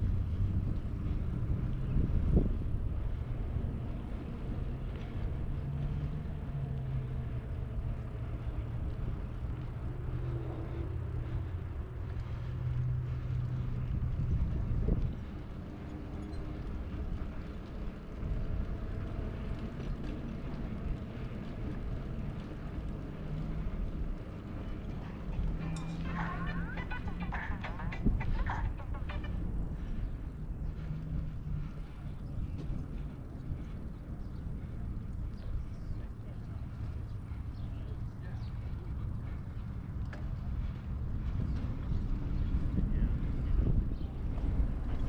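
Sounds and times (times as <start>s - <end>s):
road rumble: 0.0s - 45.0s
vehicle engine hum: 0.0s - 45.0s.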